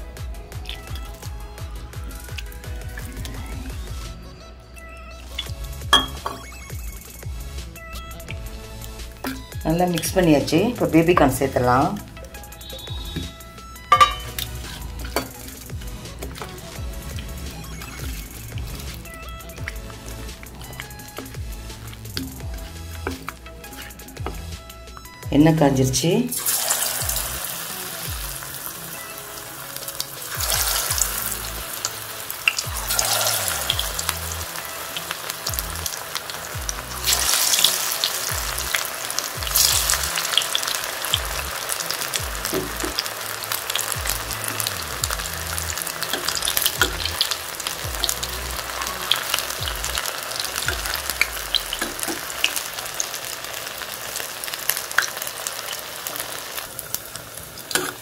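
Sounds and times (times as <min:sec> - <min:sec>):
food deep-frying in oil: 0:00.0 - 0:04.1, 0:05.3 - 0:24.6, 0:25.8 - 0:58.0.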